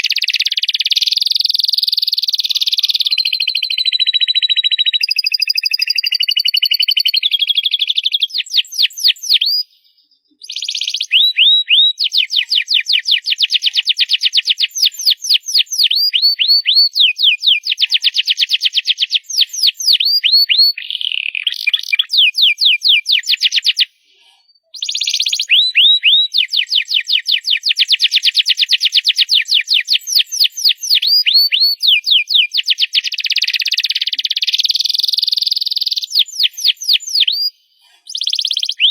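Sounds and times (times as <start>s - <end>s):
canary singing loud trills: 0.0s - 38.9s.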